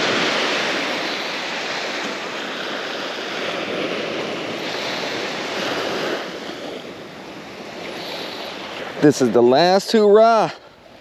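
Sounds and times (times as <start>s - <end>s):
surf washing on a beach: 0.0s - 11.0s.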